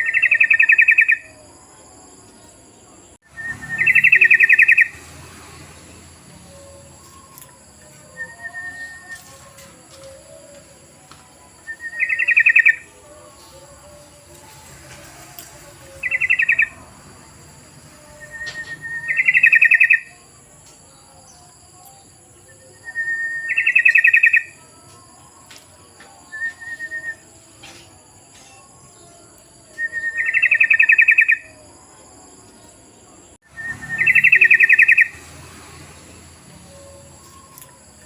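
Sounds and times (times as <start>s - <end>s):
bird song with chattering trill: 0.0s - 38.0s.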